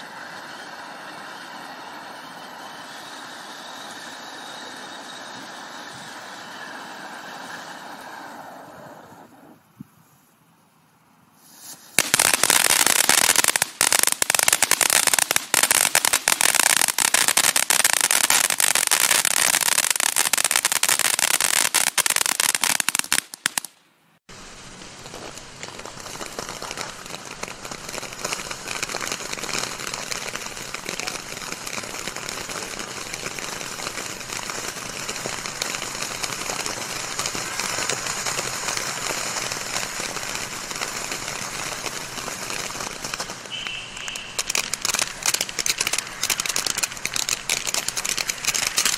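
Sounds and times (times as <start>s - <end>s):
ground firework crackling loudly: 0.0s - 9.6s, 11.4s - 48.9s
firework fountain hissing: 0.0s - 10.4s, 11.2s - 48.9s.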